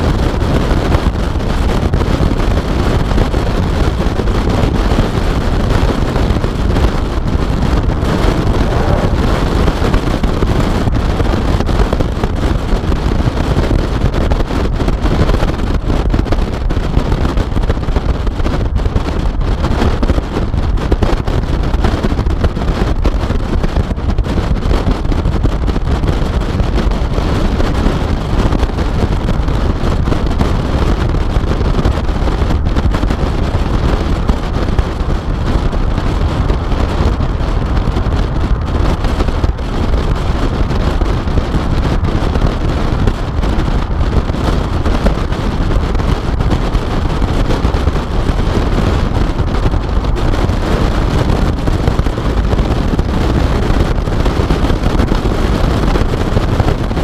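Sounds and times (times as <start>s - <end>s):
road and engine rumble: 0.0s - 57.0s
wind buffeting microphone: 0.0s - 57.0s.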